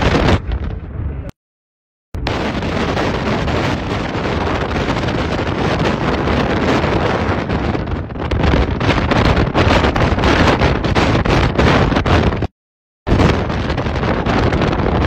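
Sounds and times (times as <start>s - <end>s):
wind buffeting microphone: 0.0s - 1.3s, 2.2s - 12.5s, 13.1s - 15.0s.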